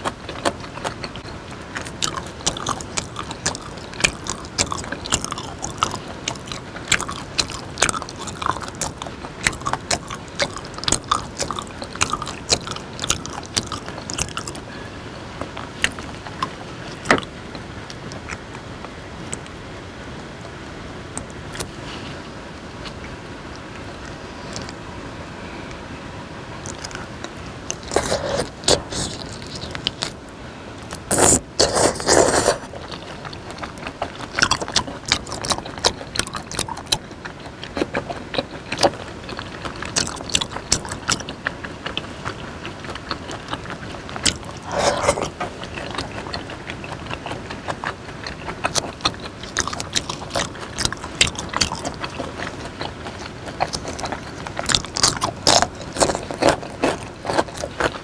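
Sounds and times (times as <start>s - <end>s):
biting crunchy vegetable stalk: 0.0s - 14.8s, 15.4s - 19.6s, 20.4s - 21.9s, 22.7s - 24.8s, 26.6s - 30.2s, 30.8s - 58.0s
wet chewing and lip smacking: 0.0s - 14.8s, 15.4s - 19.6s, 20.4s - 21.8s, 22.7s - 24.8s, 26.6s - 58.0s.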